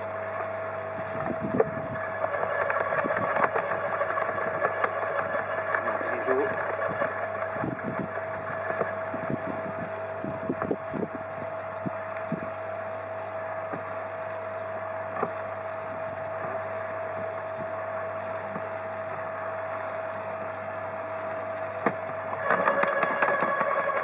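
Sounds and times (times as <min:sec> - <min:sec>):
garden shredder motor whine: 0:00.0 - 0:24.0.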